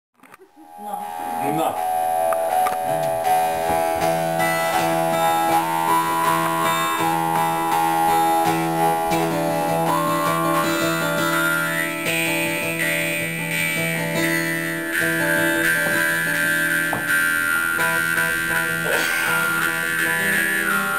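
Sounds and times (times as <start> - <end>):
guitar music: 0.4 - 20.9.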